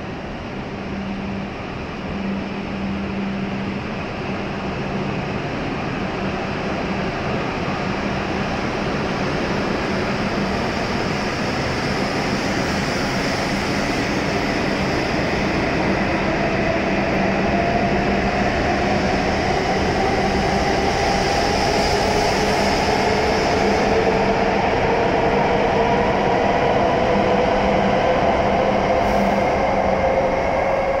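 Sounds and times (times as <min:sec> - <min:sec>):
rumble of moving train cars: 0:00.0 - 0:31.0.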